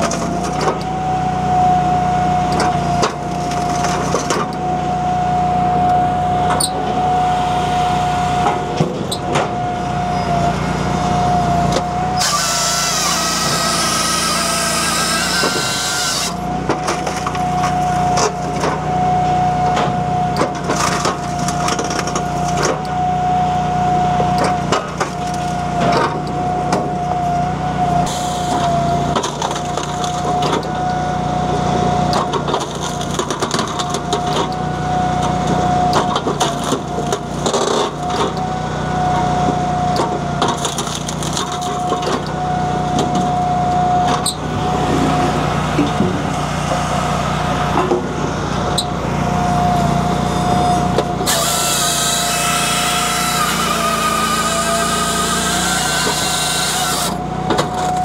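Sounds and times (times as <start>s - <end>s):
engine whine: 0.0s - 58.0s.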